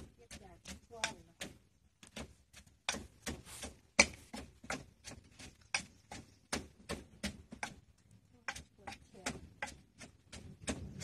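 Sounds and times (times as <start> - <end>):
pestle pounding in mortar: 0.0 - 11.0.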